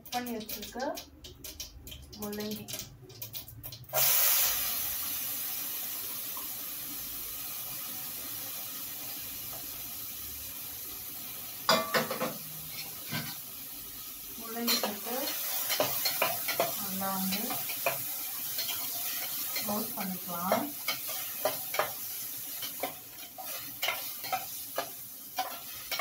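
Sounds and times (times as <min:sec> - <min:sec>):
vegetables sizzling in hot oil: 0:03.8 - 0:26.0.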